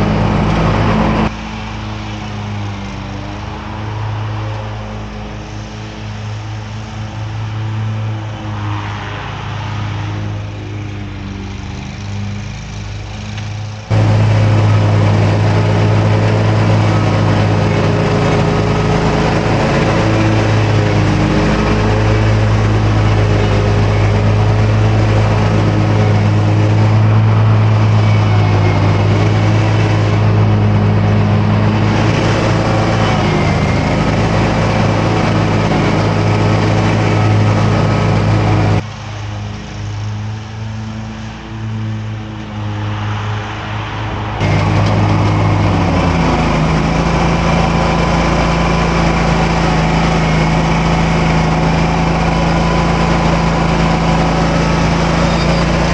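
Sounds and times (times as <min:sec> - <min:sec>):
mower engine running: 0:00.0 - 0:09.1, 0:10.1 - 0:55.9.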